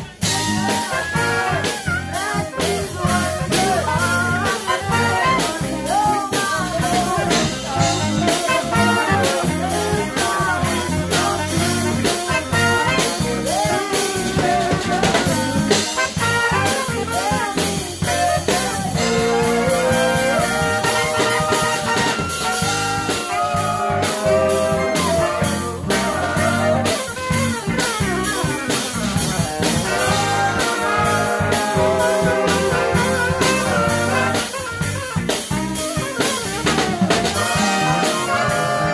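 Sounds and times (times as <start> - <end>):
drum kit: 0.0 - 38.9
saxophones playing melodic lines: 0.0 - 38.9.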